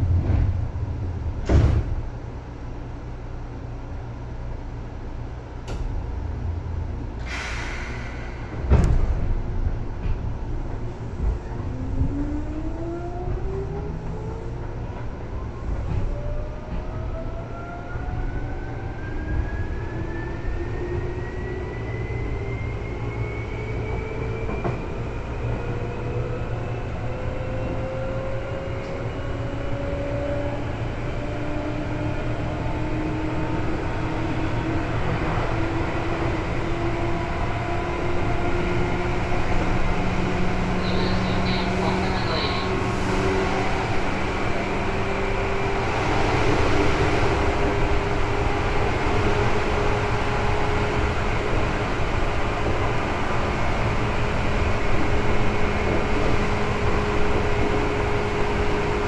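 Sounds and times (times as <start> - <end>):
wheels rumbling on rail: 0.0 - 59.0.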